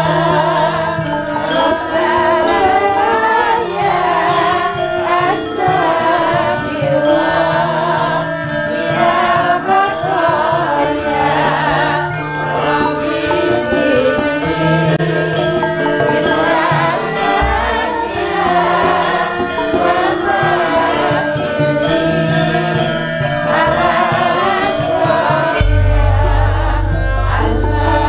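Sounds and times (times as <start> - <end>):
gamelan accompaniment: 0.0 - 28.0
hand drum: 0.0 - 28.0
women singing through microphones: 0.0 - 28.0.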